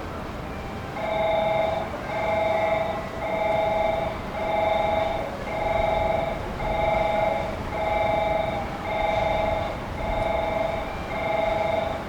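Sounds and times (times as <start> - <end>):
electronic two-note warning tone: 1.0 - 12.0.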